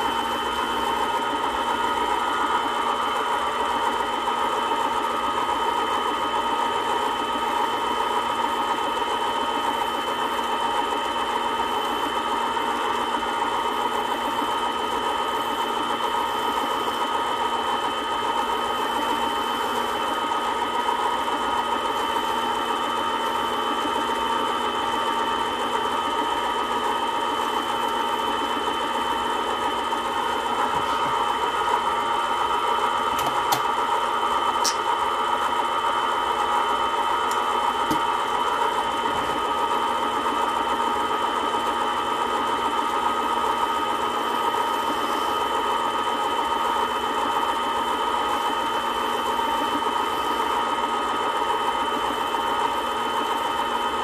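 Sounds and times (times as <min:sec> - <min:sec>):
lathe motor whining: 0:00.0 - 0:54.0.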